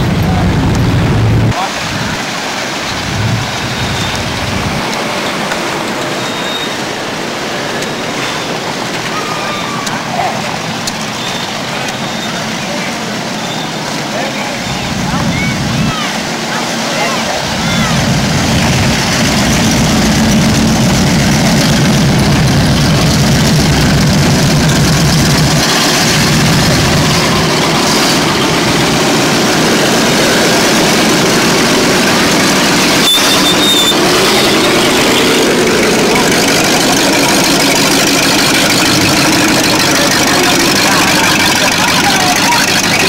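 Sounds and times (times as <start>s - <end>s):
car engines running loud: 0.0s - 43.0s
pickup engine deep rumble: 0.0s - 43.0s.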